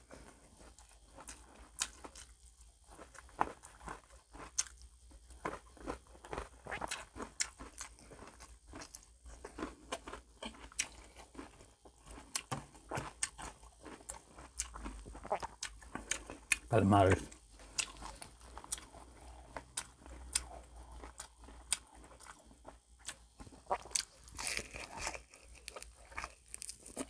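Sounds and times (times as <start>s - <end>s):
chewing crispy fried food: 0.0s - 27.0s.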